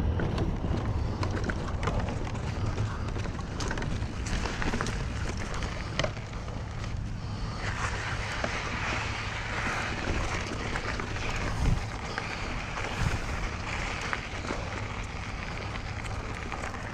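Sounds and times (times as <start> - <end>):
bike tyre and wind rumble: 0.0 - 16.9.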